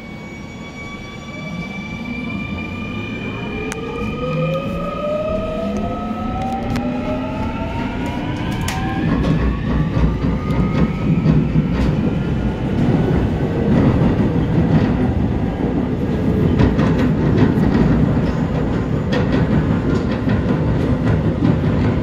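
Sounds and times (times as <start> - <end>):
train rumbling through tunnel: 0.0 - 22.0.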